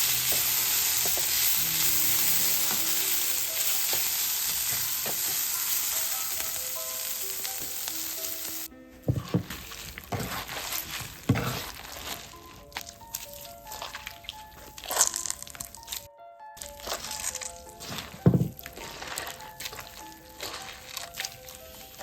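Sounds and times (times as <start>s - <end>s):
vegetables sizzling in a pan: 0.0s - 12.4s, 13.1s - 22.0s.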